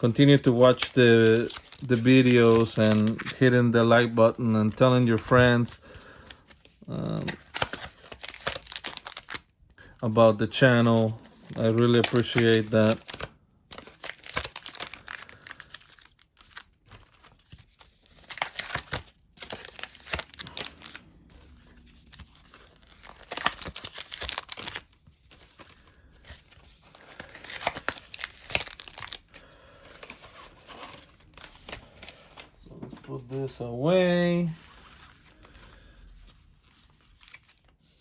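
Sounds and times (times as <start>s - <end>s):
foil wrappers tearing and crinkling: 0.2s - 3.5s, 6.2s - 9.5s, 10.6s - 32.5s, 34.3s - 38.0s.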